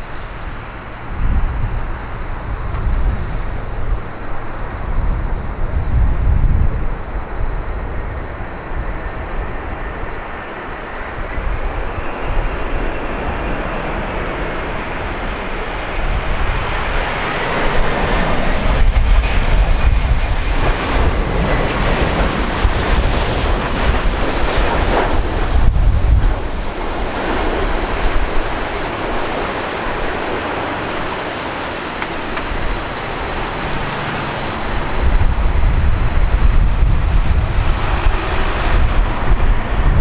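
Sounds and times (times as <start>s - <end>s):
jet engines rumbling: 0.0s - 40.0s
wind buffeting microphone: 0.0s - 40.0s.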